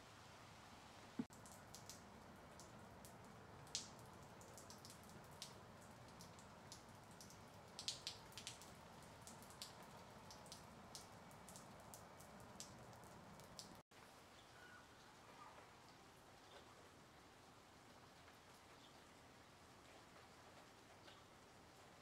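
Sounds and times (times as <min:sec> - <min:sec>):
light rain on pavement: 0:00.0 - 0:22.0.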